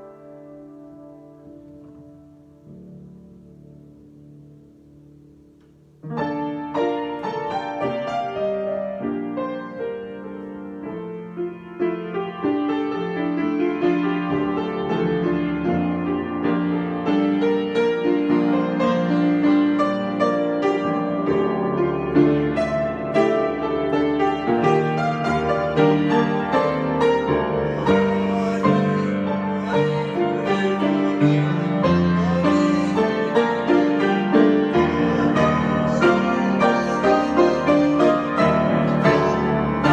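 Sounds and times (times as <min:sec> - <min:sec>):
piano improvisation: 0:00.0 - 0:39.9.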